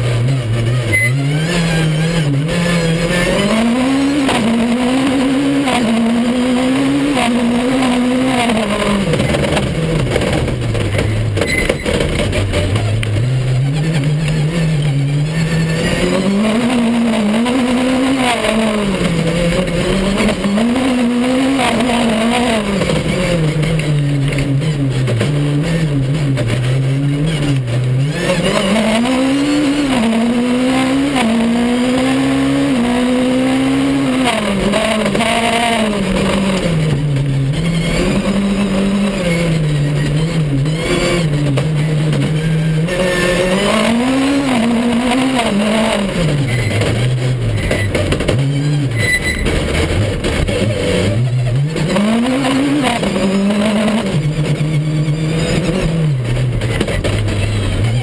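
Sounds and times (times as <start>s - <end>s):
car driving on dirt track: 0.0s - 58.0s
rally car engine revving: 0.0s - 58.0s.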